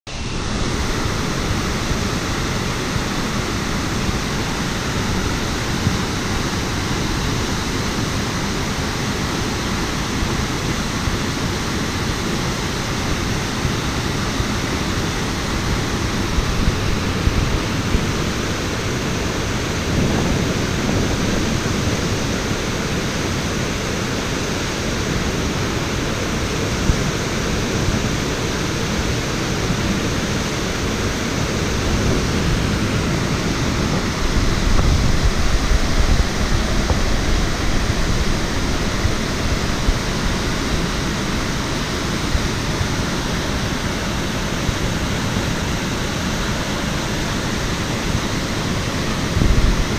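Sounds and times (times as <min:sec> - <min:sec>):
waterfall rushing: 0:00.1 - 0:49.9.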